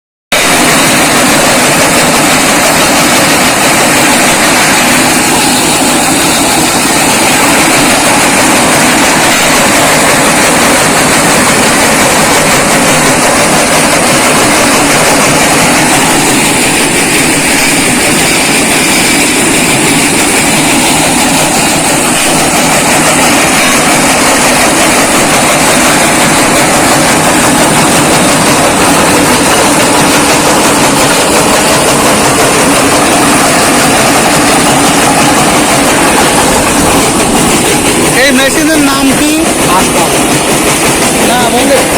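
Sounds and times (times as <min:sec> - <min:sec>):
brick crusher machine running: 0:00.4 - 0:41.9.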